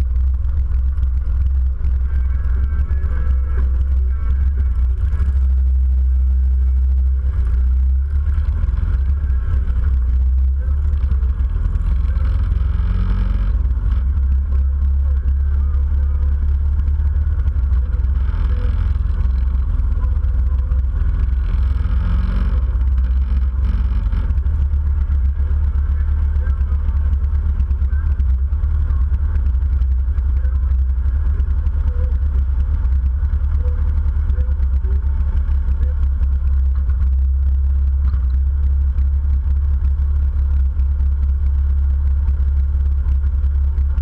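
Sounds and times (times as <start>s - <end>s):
motorcycle engines rumbling: 0.0s - 44.0s.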